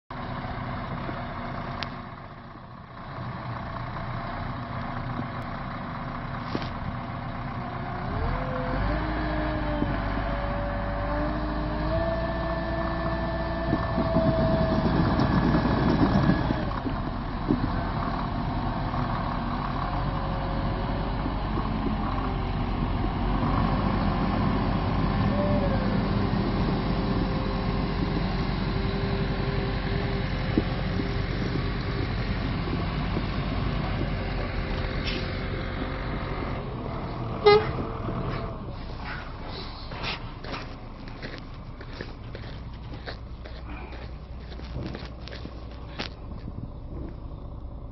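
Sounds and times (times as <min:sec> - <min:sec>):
heavy diesel engines revving: 0:00.2 - 0:47.9.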